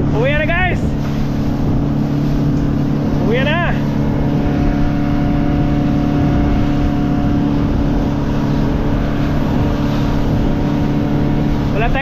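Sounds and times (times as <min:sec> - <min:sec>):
motorboat engine humming: 0:00.0 - 0:12.0.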